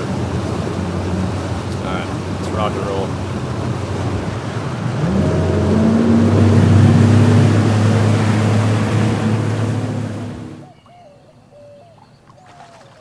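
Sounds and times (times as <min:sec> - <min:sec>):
outboard motor running: 0:00.0 - 0:10.8
rush of wind and water: 0:00.0 - 0:13.0.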